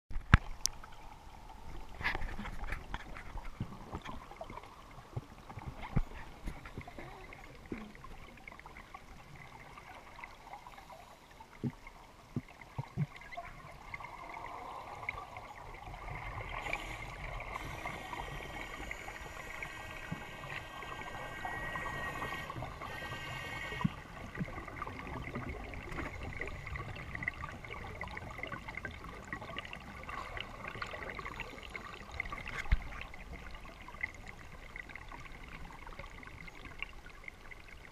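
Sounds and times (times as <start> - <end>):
water running and trickling: 0.4 - 37.9.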